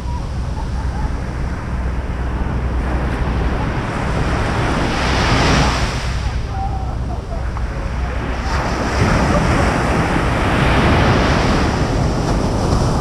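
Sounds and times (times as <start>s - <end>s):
sea surf washing ashore: 0.0s - 13.0s
wind buffeting microphone: 0.0s - 13.0s.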